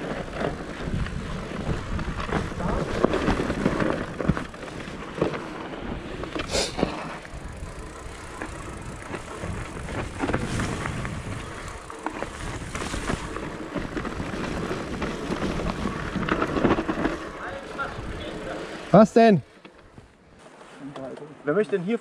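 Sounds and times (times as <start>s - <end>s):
bike rattling and knocking: 0.0s - 20.0s
tyres running over dirt: 0.0s - 20.5s.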